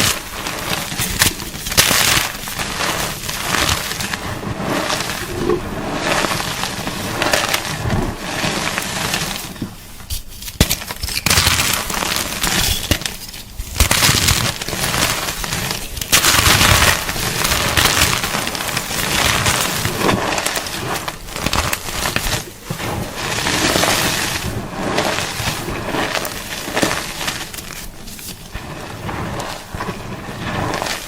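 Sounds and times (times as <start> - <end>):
chalk being crunched: 0.0 - 31.0.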